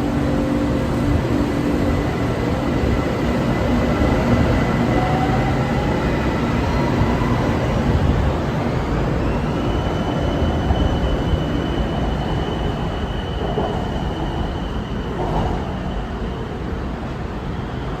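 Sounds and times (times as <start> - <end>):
thin high train whine: 0.0 - 18.0.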